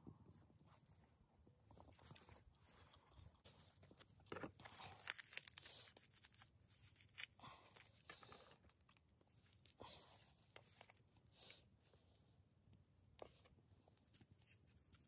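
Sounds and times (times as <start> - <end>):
bread tearing and rustling: 1.7 - 15.0.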